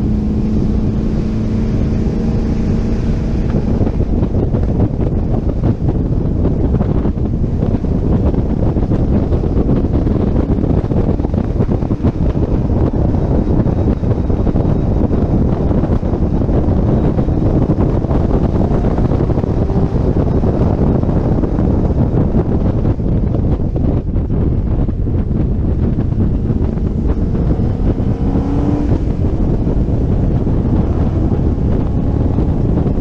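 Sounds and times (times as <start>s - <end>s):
car engine running: 0.0s - 33.0s
wind buffeting microphone: 0.0s - 33.0s.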